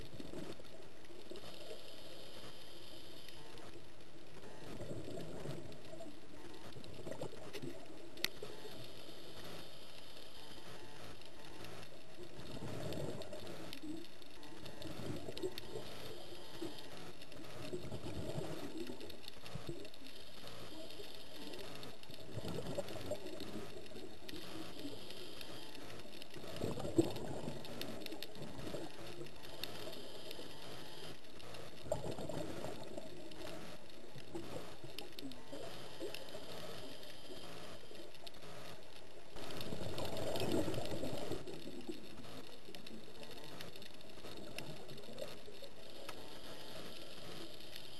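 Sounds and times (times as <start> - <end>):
steady underwater hiss: 0.0 - 47.9.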